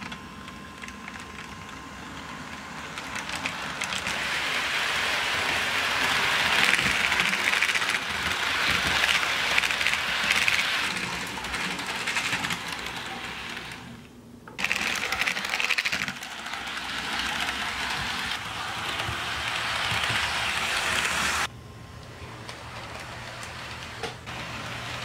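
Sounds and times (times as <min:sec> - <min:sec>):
model train wheels rattling: 0:00.0 - 0:14.0, 0:14.6 - 0:21.5.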